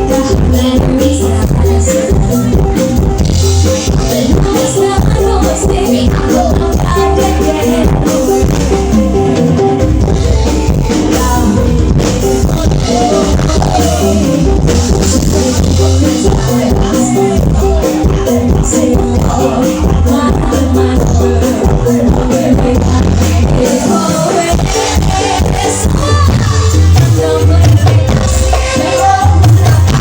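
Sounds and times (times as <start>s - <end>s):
band playing through sound system: 0.0s - 30.0s
driving drum beat: 0.0s - 30.0s
heavy bass: 0.0s - 30.0s.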